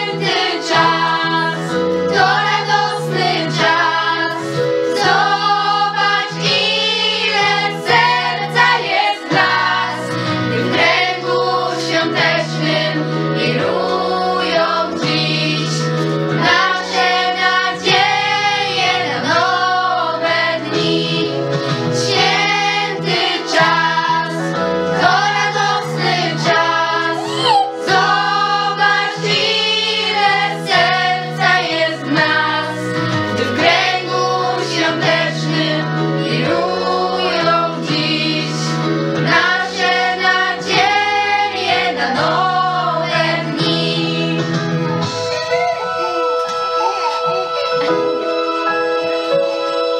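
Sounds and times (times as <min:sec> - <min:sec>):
girls choir singing: 0:00.0 - 0:45.2.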